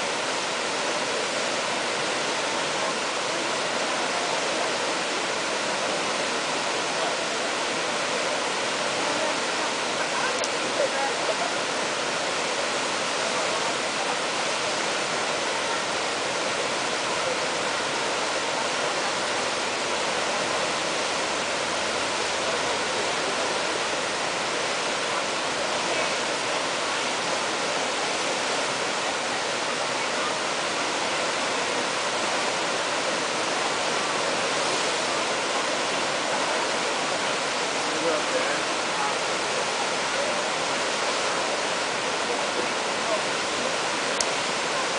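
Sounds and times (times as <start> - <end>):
whitewater rushing: 0.0 - 44.9.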